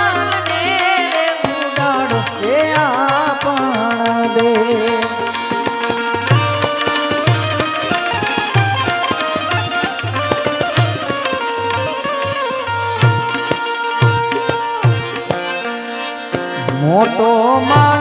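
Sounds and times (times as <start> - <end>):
banjo melody: 0.0 - 18.0
tabla beat: 0.0 - 18.0.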